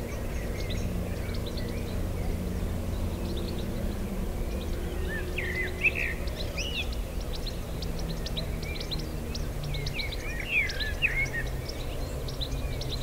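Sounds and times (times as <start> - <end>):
low background rumble: 0.0 - 12.8
small birds chirping: 0.0 - 13.0.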